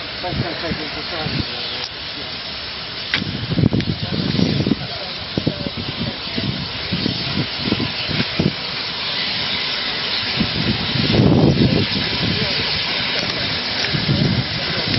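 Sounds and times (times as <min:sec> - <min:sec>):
steam locomotive hissing: 0:00.0 - 0:14.9.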